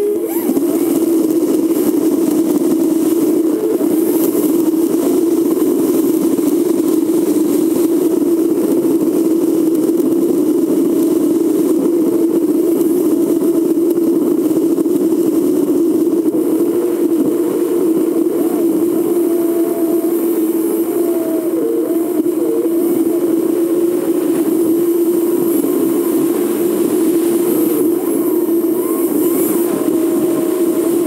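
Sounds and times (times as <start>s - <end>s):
vehicle engine and road drone: 0.0s - 31.0s.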